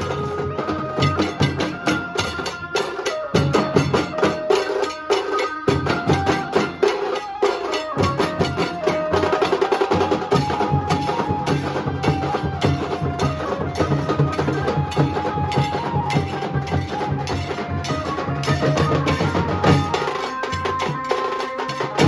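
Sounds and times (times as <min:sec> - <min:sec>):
dhol and tasha drumming: 0:00.0 - 0:22.0
wavering held melody: 0:00.0 - 0:22.0.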